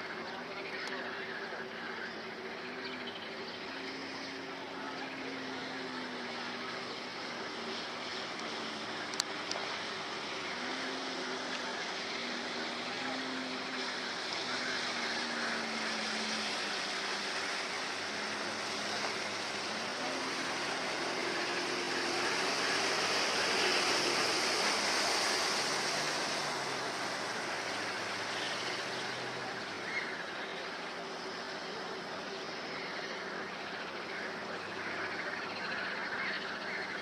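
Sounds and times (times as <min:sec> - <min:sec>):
motorboat engine at speed: 0:00.0 - 0:37.0.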